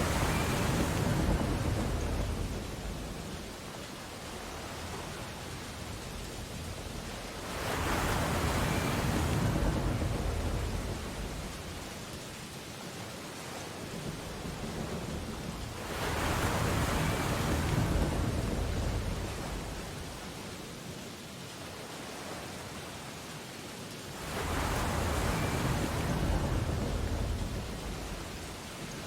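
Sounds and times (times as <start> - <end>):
ocean waves crashing: 0.0 - 29.0
surf hiss: 0.0 - 29.0.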